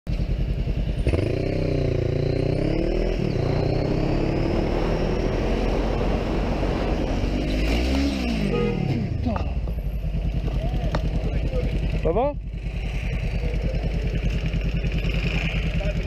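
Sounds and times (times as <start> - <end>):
wind and road noise: 0.1 - 13.8
motorcycle engine accelerating: 0.1 - 16.0.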